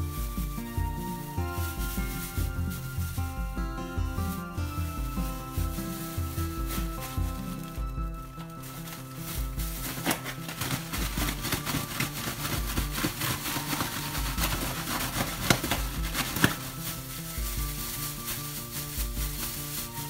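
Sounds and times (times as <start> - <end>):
background music with bass line: 0.0 - 20.0
plastic bag rustling: 0.0 - 20.0.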